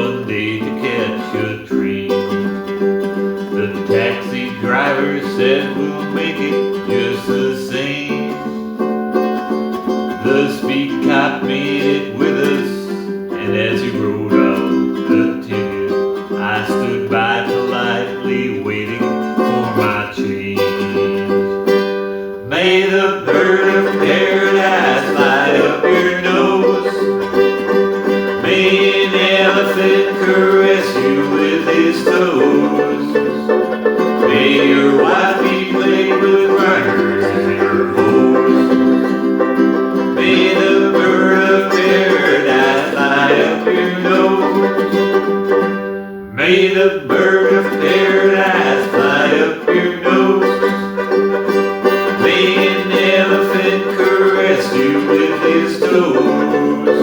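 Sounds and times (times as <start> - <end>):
ukulele strumming: 0.0 - 57.0.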